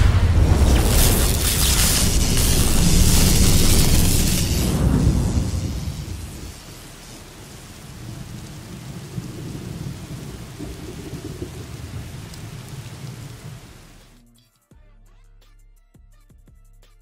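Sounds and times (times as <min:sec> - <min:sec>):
rumbling thunder: 0:00.0 - 0:14.0
rain-like hiss: 0:00.0 - 0:14.2.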